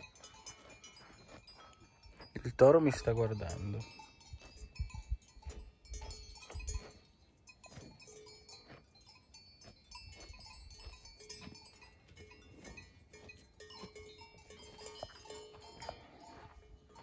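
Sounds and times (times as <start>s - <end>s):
cattle bells clanking: 0.0s - 17.0s.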